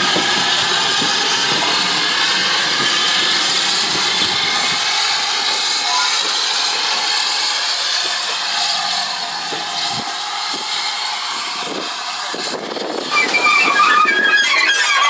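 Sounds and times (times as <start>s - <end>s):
loud hiss of steam: 0.0s - 15.0s
steam locomotive moving slowly: 0.0s - 15.0s.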